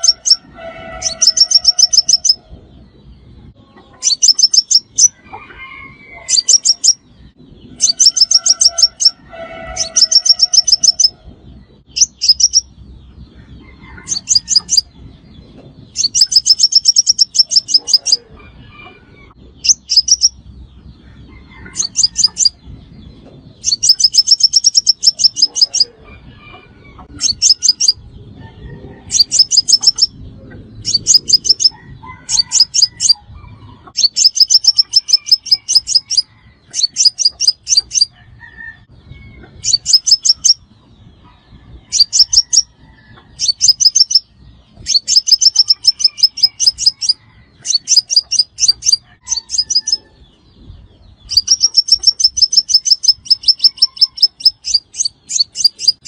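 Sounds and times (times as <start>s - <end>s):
bird twittering trills: 0.0s - 56.0s.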